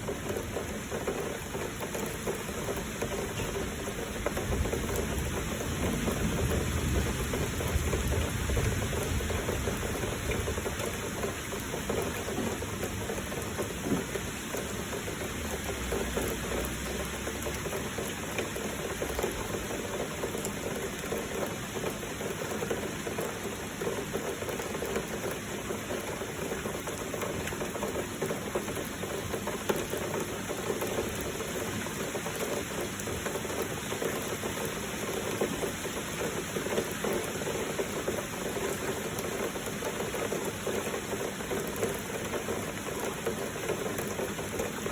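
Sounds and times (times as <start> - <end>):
flowing water: 0.0 - 44.9
heavy rain falling: 0.0 - 44.9.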